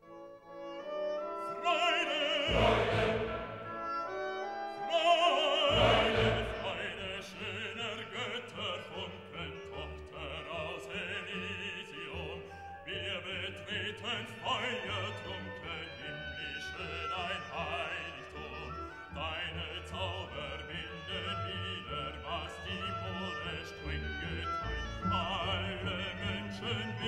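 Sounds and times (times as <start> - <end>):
orchestral accompaniment: 0.0 - 27.0
operatic voice singing: 1.4 - 3.8, 4.8 - 27.0.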